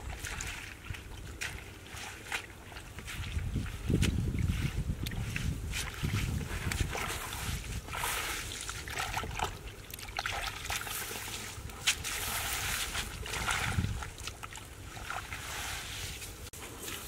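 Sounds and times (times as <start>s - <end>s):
hand splashing in muddy water: 0.0s - 16.2s
rustling through wet straw: 0.0s - 17.0s.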